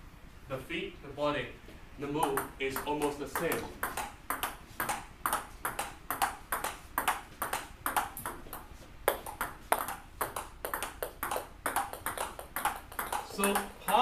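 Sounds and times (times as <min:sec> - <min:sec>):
ping-pong ball clicks: 0:02.2 - 0:14.0.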